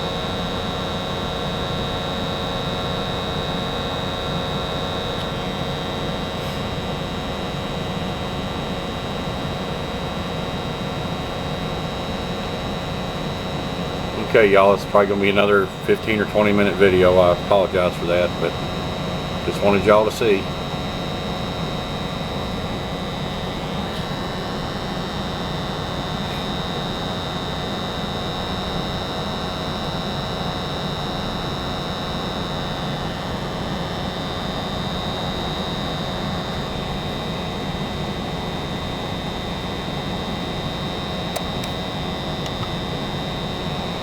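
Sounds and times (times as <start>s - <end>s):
gas furnace rushing hum: 0.0s - 44.0s
high-pitched whine: 0.0s - 44.0s.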